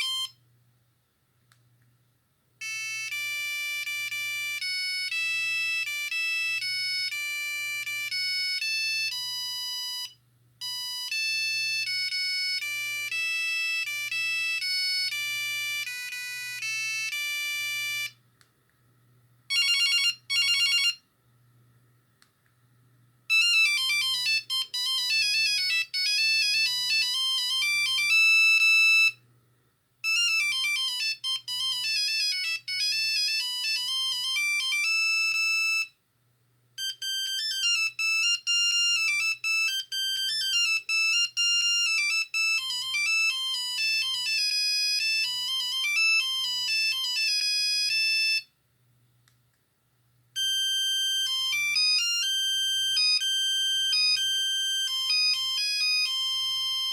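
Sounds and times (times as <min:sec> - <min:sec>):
monophonic ringtone beeping melodies: 0:00.0 - 0:00.4, 0:02.6 - 0:18.1, 0:23.3 - 0:29.2, 0:30.0 - 0:35.9, 0:36.8 - 0:48.5, 0:50.4 - 0:56.9.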